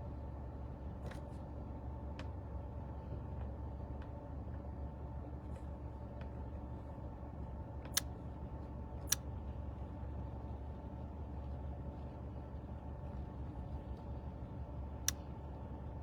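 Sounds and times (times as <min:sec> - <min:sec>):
room noise hum: 0:00.0 - 0:16.0.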